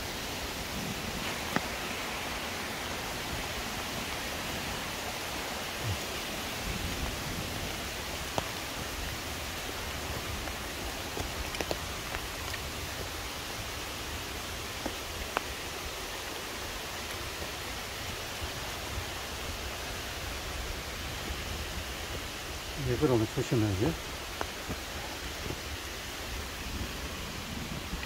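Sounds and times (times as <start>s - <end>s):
stream and waterfall rushing: 0.0s - 28.0s.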